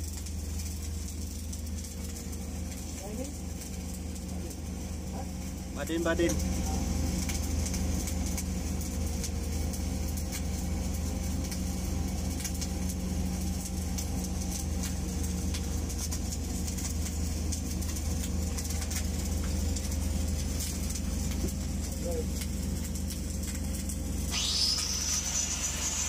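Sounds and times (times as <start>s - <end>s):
welding arc crackling: 0.0s - 26.0s
welding machine humming: 0.0s - 26.0s.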